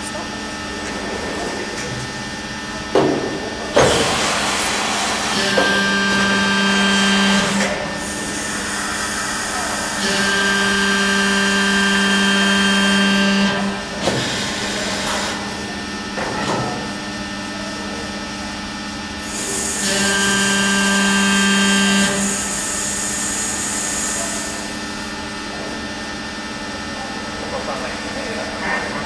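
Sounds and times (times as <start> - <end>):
machine whine: 0.0 - 29.0.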